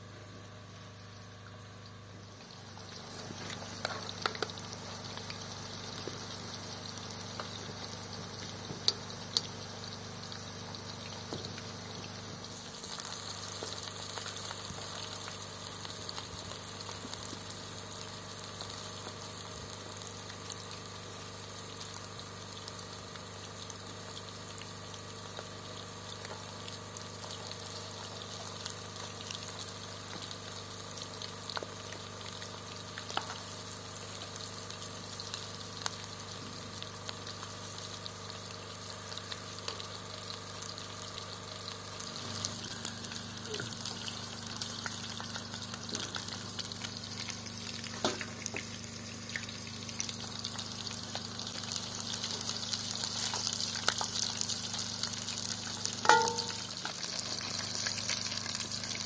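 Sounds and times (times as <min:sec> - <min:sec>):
food sizzling in hot oil: 0:00.5 - 0:59.0.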